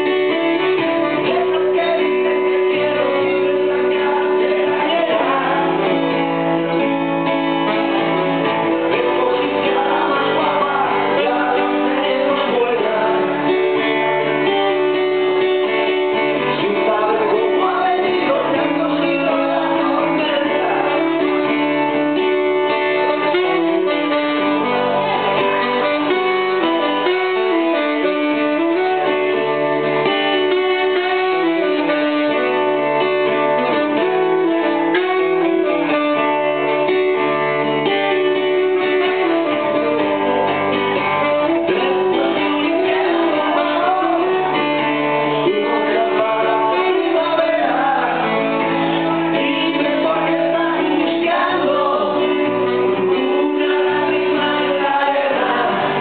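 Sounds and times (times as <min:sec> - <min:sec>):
saxophone melody: 0:00.0 - 0:54.8
strummed acoustic guitar: 0:00.0 - 0:56.0.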